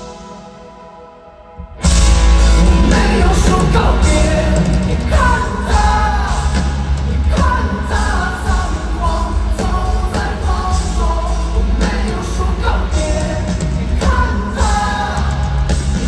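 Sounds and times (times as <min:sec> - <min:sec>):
live rock band playing: 0:00.0 - 0:16.0
heavy drums: 0:01.6 - 0:16.0.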